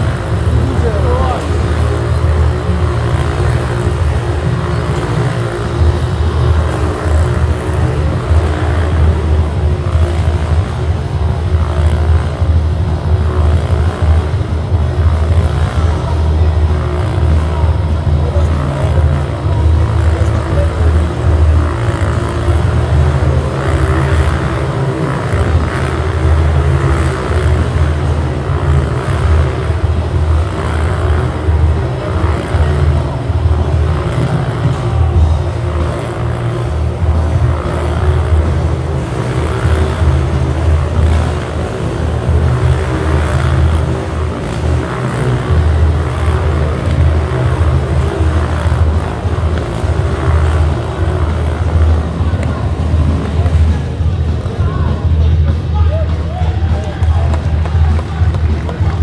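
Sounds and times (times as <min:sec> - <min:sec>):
motorcycle engines running: 0:00.0 - 0:59.0.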